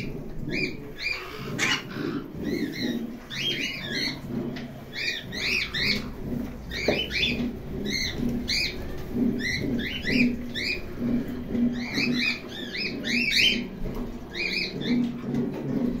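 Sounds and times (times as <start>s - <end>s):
parrots chirping: 0.0s - 15.1s.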